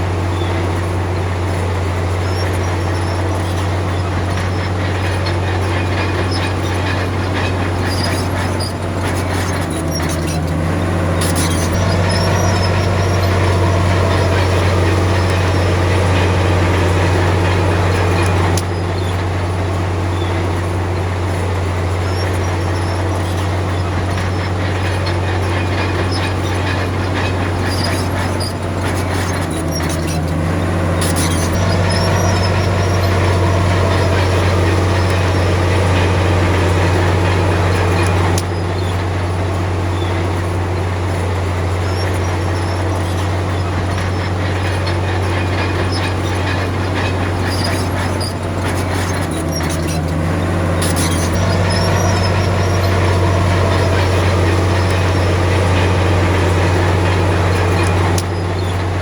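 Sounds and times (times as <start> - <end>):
bulldozer diesel engine running: 0.0 - 59.0
metallic clanks: 1.5 - 19.2, 22.0 - 39.2, 39.9 - 59.0.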